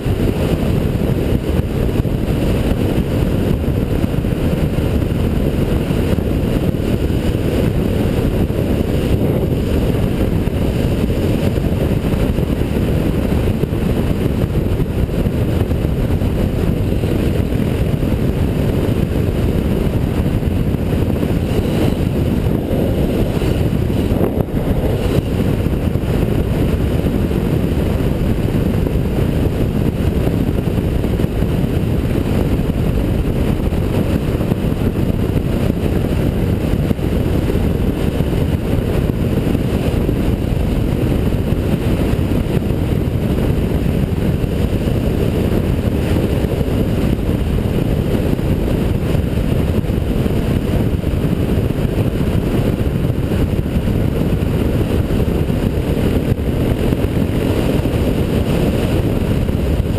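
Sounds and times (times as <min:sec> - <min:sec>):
motorcycle engine: 0:00.0 - 0:59.9
wind rushing on microphone: 0:00.0 - 0:59.9.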